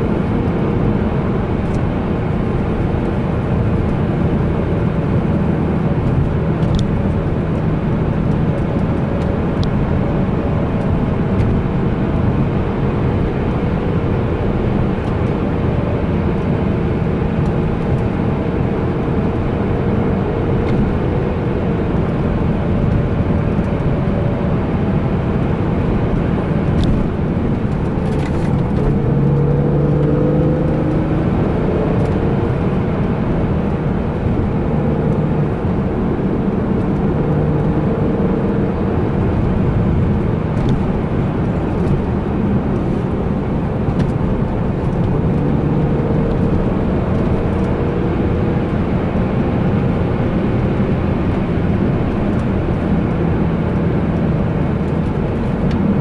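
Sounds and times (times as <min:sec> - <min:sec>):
car engine cruising: 0:00.0 - 0:56.0
tyre and road noise: 0:00.0 - 0:56.0.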